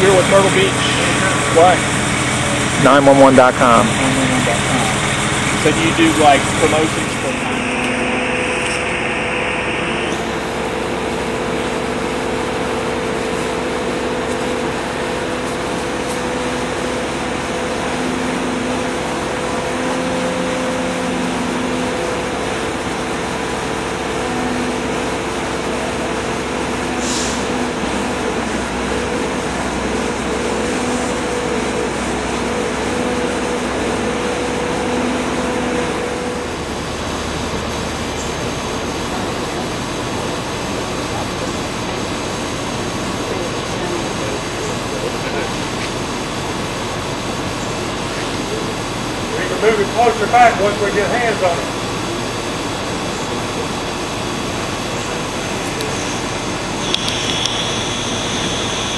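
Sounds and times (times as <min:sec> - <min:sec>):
machinery engine running: 0:00.0 - 0:58.9
wavering hum: 0:00.0 - 0:58.9.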